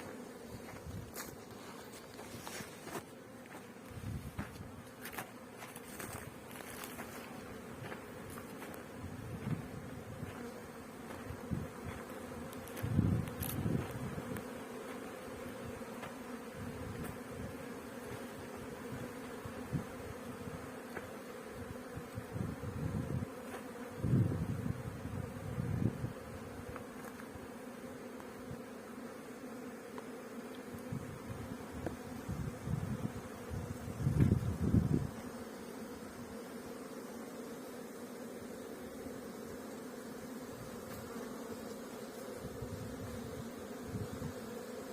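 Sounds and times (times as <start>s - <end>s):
bees buzzing: 0.0s - 44.9s.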